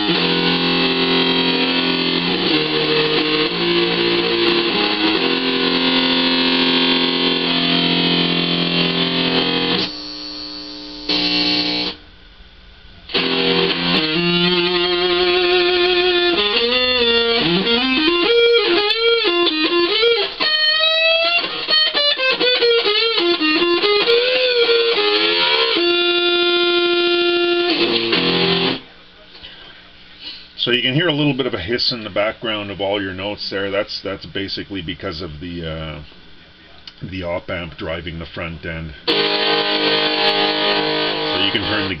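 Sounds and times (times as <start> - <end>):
amplifier hiss: 0.0 - 42.0
fuzzed electric guitar: 0.0 - 42.0.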